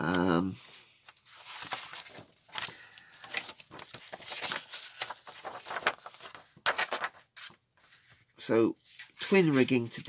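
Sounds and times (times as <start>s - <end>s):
paper rustling and crinkling: 0.6s - 10.0s.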